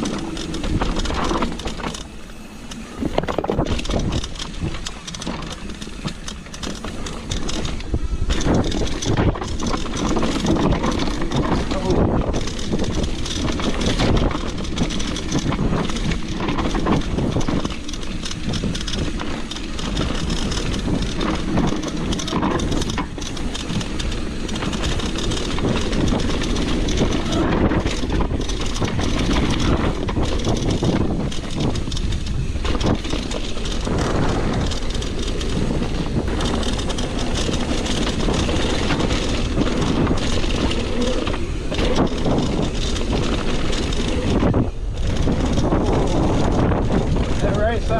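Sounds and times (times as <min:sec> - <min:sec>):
bike frame and chain rattling: 0:00.0 - 0:47.9
bike tyres rumbling over dirt: 0:00.0 - 0:47.9.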